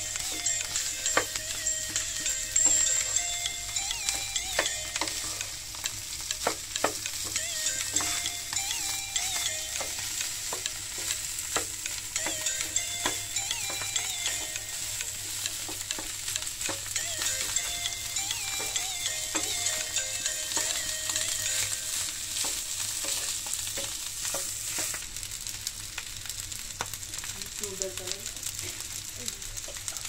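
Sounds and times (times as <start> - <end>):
spatula tapping and scraping pan: 0.0 - 25.0
rice sizzling in a pan: 0.0 - 30.0.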